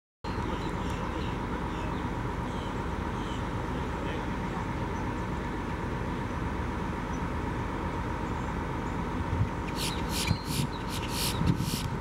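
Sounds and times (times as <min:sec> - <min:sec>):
bus engine rumbling: 0:00.3 - 0:12.0.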